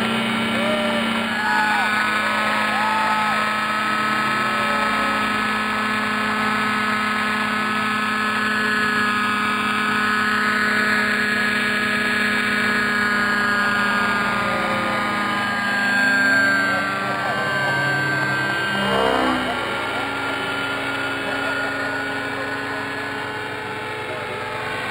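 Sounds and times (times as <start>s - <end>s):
model helicopter hovering: 0.0s - 24.9s.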